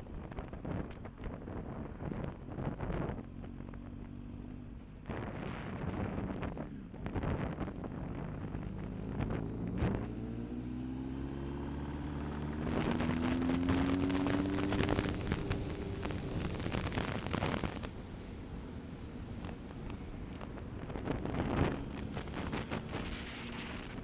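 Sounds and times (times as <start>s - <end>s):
wind noise on microphone: 0.0s - 4.3s, 5.0s - 24.0s
vehicle engine accelerating: 2.0s - 24.0s.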